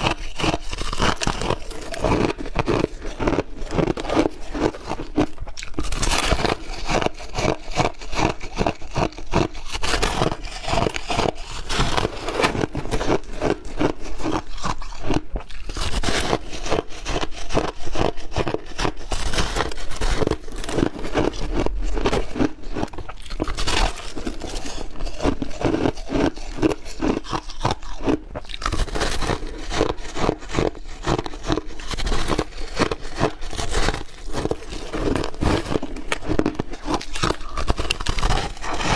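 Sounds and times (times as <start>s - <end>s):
ice crunched between teeth: 0.0s - 38.9s.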